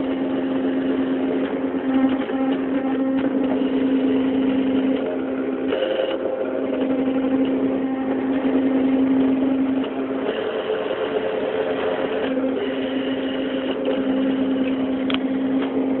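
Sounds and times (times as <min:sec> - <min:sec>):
machine motors humming: 0:00.0 - 0:16.0.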